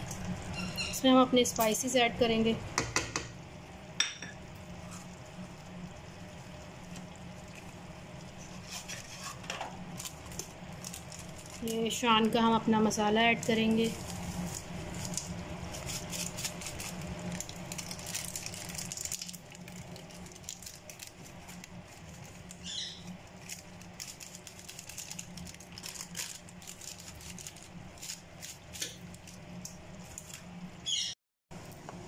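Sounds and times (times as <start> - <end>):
food frying in oil crackling: 0.0 - 30.8
low steady hum: 0.0 - 32.0.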